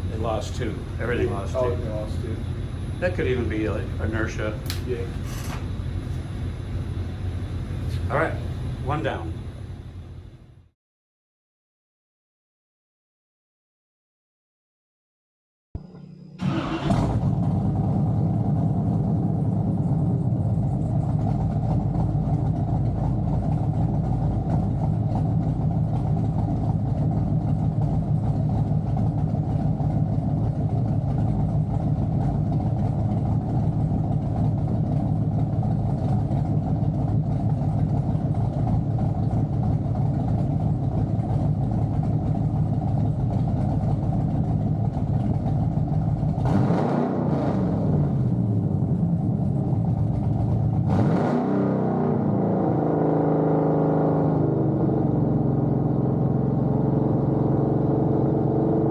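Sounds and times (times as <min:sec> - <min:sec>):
car engine running steadily: 0:00.0 - 0:10.7, 0:16.8 - 0:51.4, 0:52.0 - 0:58.9.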